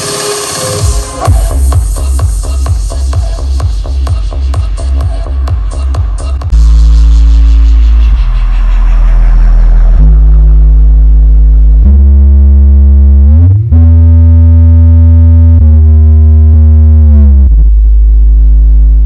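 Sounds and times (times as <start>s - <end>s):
deep synth bass notes: 0.0s - 19.0s.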